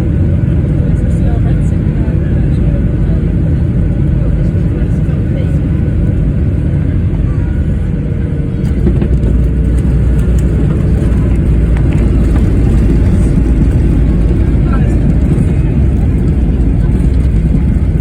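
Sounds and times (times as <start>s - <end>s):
jet airliner low rumble: 0.0s - 18.0s.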